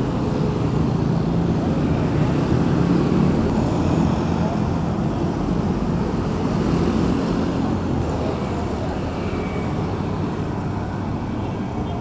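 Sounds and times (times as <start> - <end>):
motorbikes and cars passing: 0.0 - 12.0
rumble of engines and tyres: 0.0 - 12.0.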